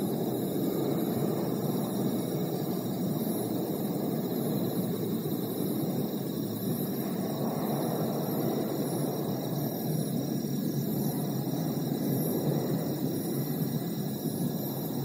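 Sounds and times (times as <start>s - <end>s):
jet airliner flying overhead: 0.0s - 15.0s.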